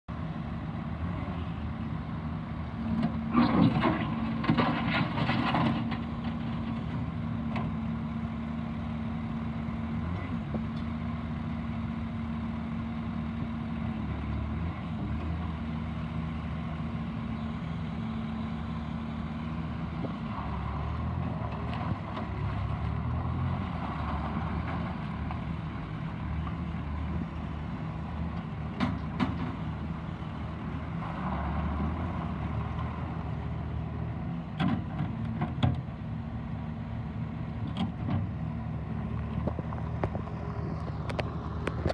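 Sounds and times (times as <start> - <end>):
diesel engine running: 0.1 - 41.9.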